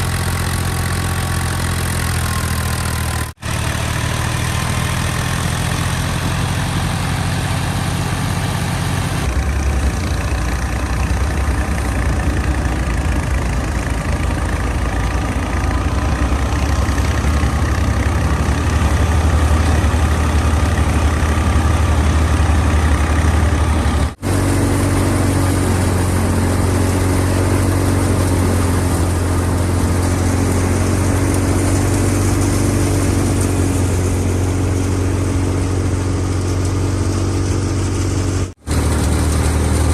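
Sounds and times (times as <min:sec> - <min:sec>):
thresher whirring: 0:00.0 - 0:39.9
tractor diesel engine running: 0:00.0 - 0:39.9.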